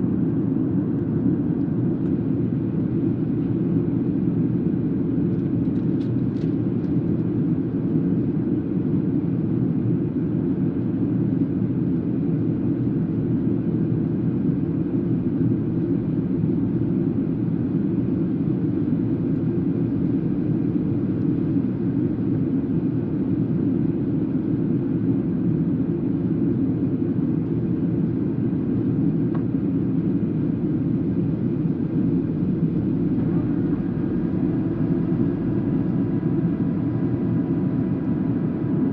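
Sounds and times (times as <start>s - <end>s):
airliner engine drone: 0.0s - 38.9s.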